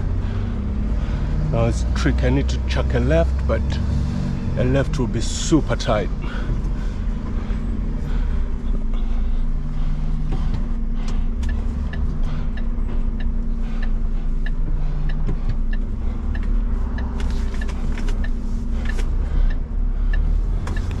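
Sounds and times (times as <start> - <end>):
truck diesel engine drone: 0.0 - 21.0
turn indicator ticking: 0.0 - 21.0.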